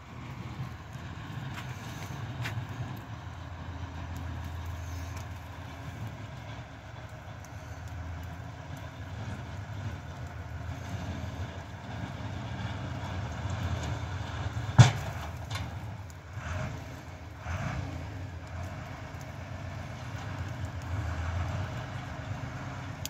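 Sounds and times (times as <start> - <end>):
snowplow engine rumbling: 0.0 - 23.0.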